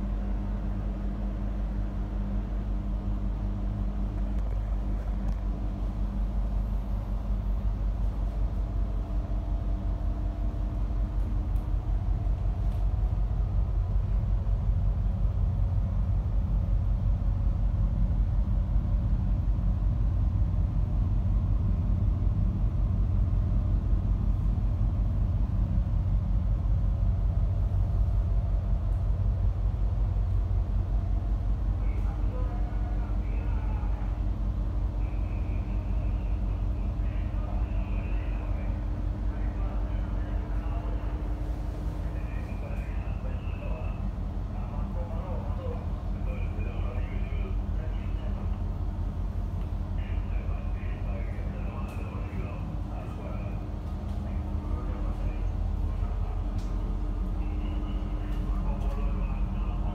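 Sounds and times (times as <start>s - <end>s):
boat engines droning: 0.0s - 59.9s.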